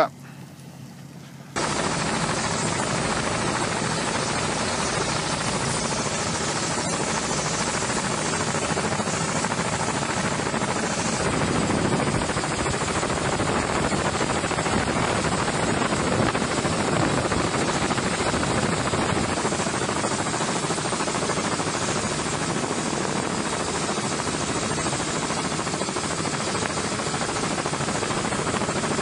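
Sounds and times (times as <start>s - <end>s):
helicopter rotor beat: 0.0s - 29.0s
wind noise rushing: 1.6s - 29.0s.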